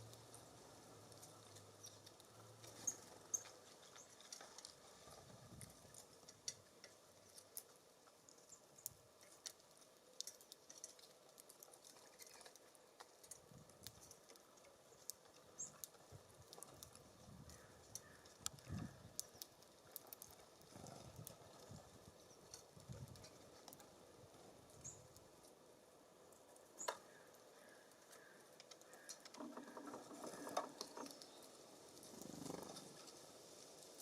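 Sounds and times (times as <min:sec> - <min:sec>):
birds pecking at wooden feeder: 0:00.0 - 0:25.6, 0:26.2 - 0:34.0.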